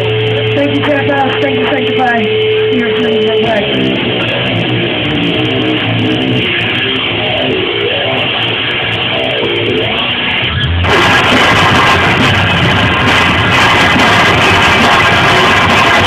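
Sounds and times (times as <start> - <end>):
drums: 0.0 - 16.0
electric guitar riff: 0.0 - 16.0
rock band playing: 0.0 - 16.0.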